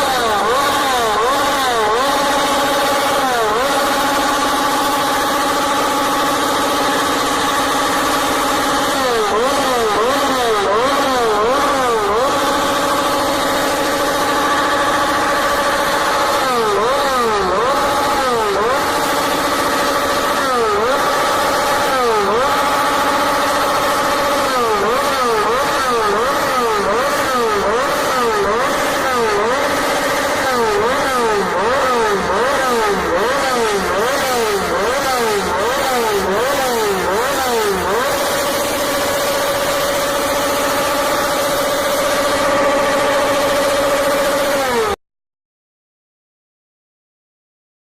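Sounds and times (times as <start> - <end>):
motorcycle engine revving high: 0.0 - 45.0.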